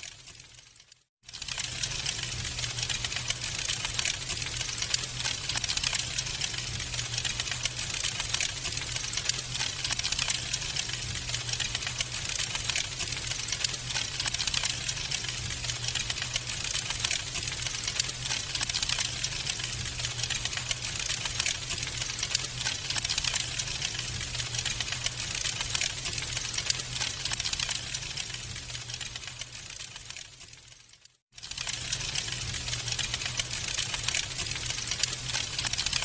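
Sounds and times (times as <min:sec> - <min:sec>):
wood fire crackling: 0:00.3 - 0:36.0.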